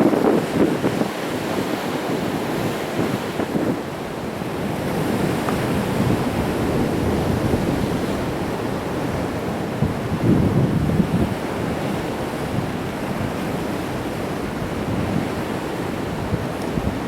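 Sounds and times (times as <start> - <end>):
waves breaking against rocks: 0.0 - 17.0
wind buffeting microphone: 0.0 - 17.0.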